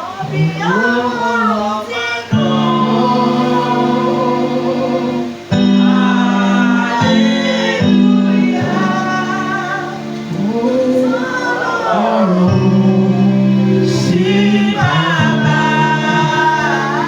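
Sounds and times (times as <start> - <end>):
voices singing gospel chorus: 0.0 - 17.0.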